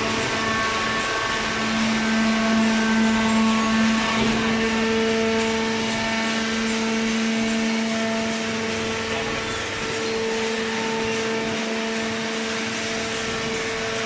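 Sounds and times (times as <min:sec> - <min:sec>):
hydraulic unit humming: 0:00.0 - 0:14.0
machine noise: 0:00.0 - 0:14.0.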